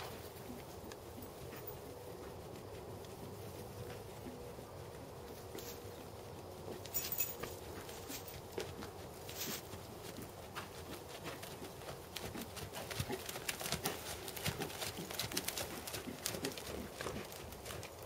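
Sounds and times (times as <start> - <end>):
hoofbeats on sand: 0.0 - 18.0.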